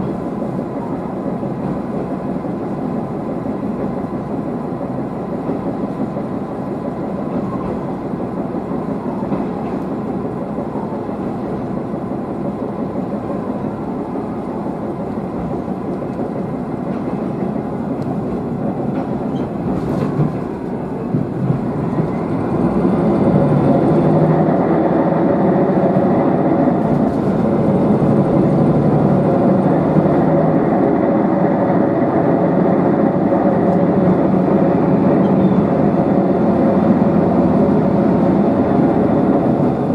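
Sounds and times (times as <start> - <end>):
diesel railcar engine: 0.0 - 39.9
train wheels on rails: 0.0 - 39.9.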